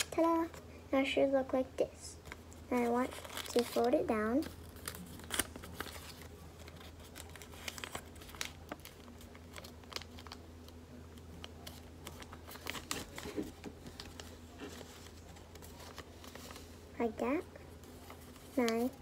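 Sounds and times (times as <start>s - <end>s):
faint low hum: 0.0s - 19.0s
paper crinkling and rustling: 2.2s - 19.0s.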